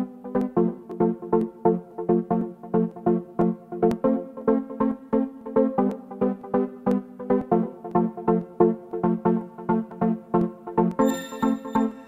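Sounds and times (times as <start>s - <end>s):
background music with steady pulse: 0.0s - 12.0s.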